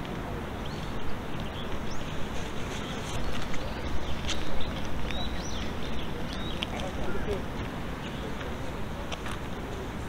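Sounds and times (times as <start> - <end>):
small birds chirping: 0.5 - 9.2.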